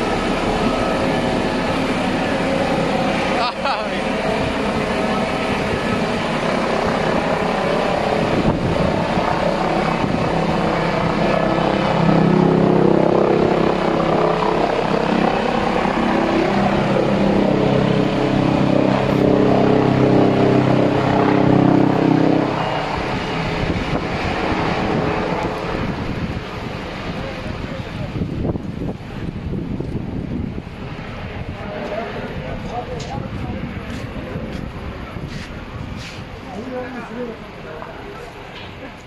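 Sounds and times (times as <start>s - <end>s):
helicopter flying overhead: 0.0s - 39.0s.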